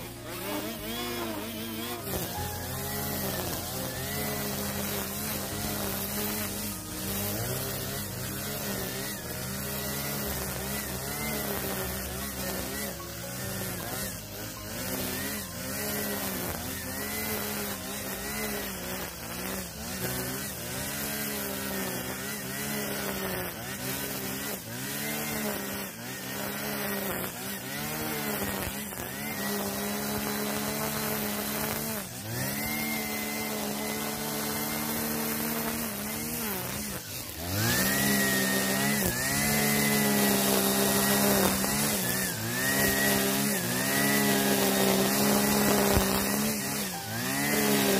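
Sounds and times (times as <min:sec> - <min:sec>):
brush cutter engine revving: 0:00.0 - 0:47.9.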